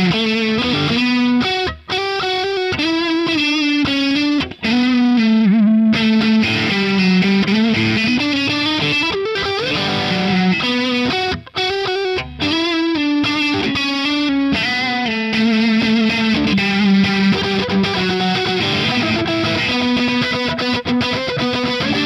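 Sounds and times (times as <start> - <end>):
distorted electric guitar: 0.0 - 22.0.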